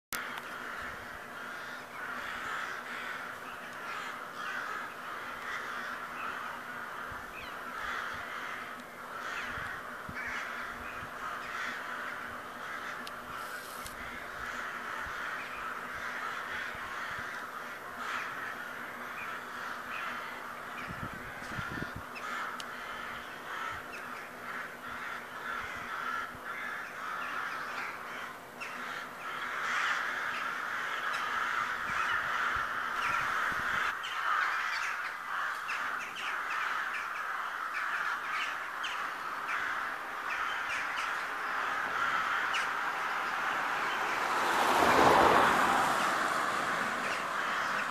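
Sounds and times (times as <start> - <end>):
crows cawing: 0.2 - 47.9.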